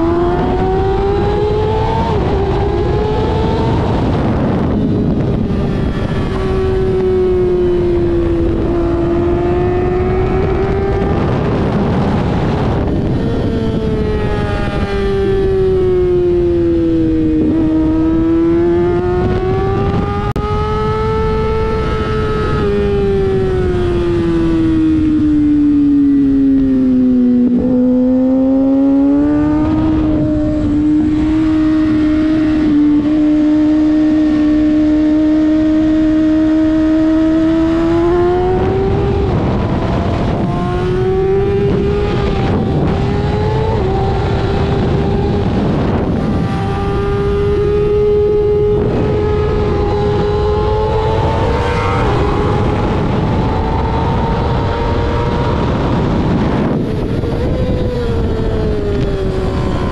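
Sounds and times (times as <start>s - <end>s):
motorcycle engine at high revs: 0.0s - 59.9s
wind rush: 0.0s - 59.9s.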